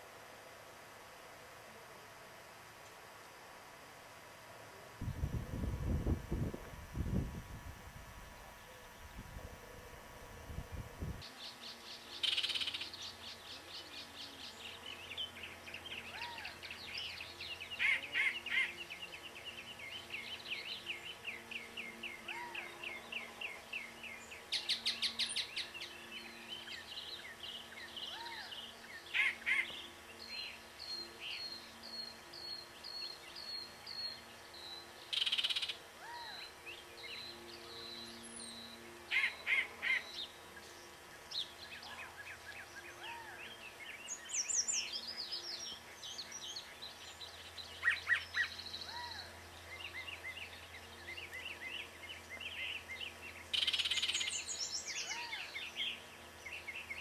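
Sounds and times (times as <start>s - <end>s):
birds singing and chirping: 10.2s - 57.0s.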